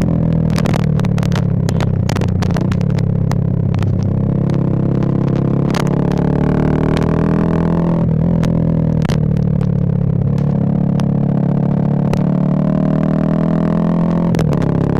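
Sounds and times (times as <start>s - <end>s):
motorcycle engine with crackles: 0.0s - 14.9s.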